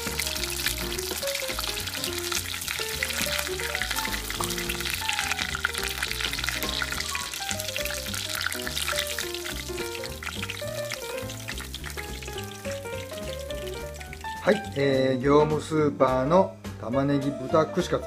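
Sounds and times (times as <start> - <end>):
oil crackling deep-frying: 0.0 - 15.7
background music: 0.0 - 18.0.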